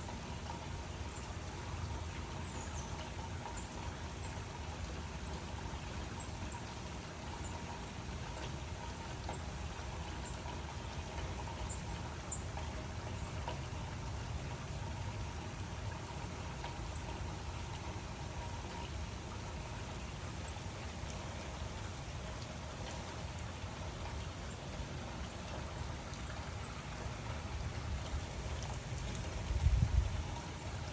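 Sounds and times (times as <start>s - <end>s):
rain falling: 0.0s - 30.9s.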